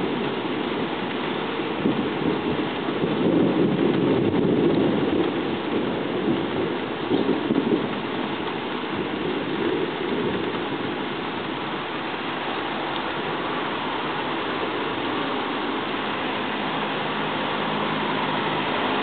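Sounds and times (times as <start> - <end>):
rain on pavement: 0.0 - 19.0
thunder rumble: 0.0 - 19.0.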